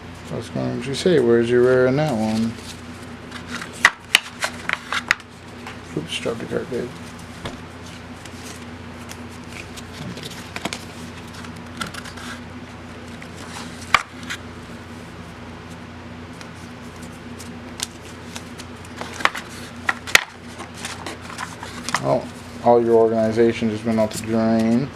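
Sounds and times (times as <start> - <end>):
steady low hum: 0.0 - 24.9
cards rustling and tapping: 1.6 - 14.8, 15.6 - 24.9.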